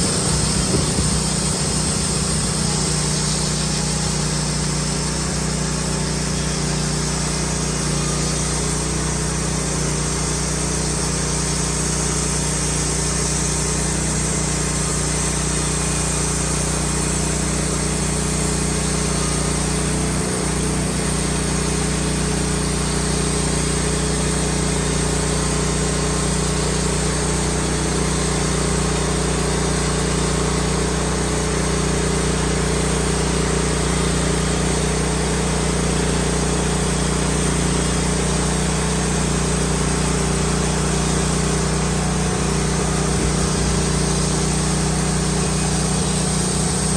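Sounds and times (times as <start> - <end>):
band sawmill engine running: 0.0 - 46.9.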